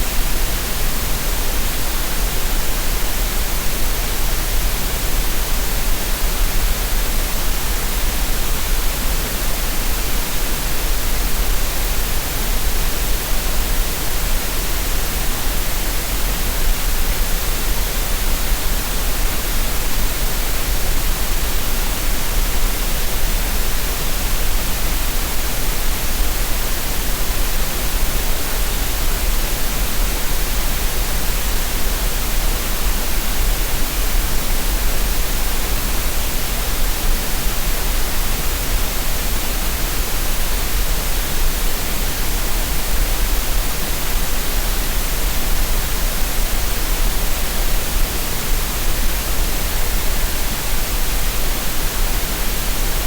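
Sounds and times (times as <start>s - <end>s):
steady green noise hiss: 0.0s - 53.0s.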